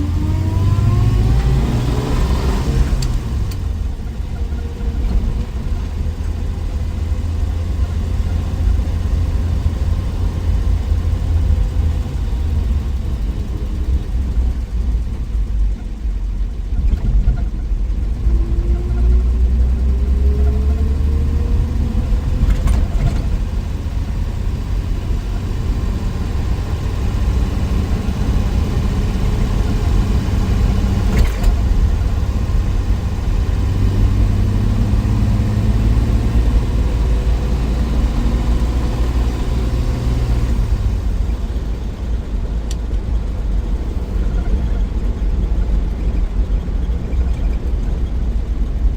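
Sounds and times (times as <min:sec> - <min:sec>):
car engine rumble: 0:00.0 - 0:48.9
drivetrain whine: 0:00.0 - 0:48.9.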